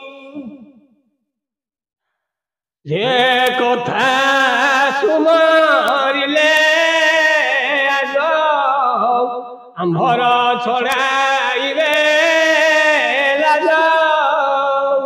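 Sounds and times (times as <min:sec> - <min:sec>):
man chanting melodically: 0:00.0 - 0:00.6, 0:02.9 - 0:15.0.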